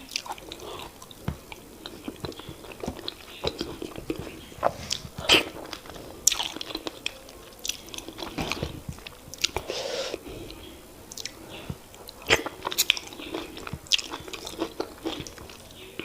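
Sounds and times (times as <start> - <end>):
lip smacks: 0.0 - 16.0
mouth clicks: 0.0 - 16.0
wet chewing: 0.0 - 16.0.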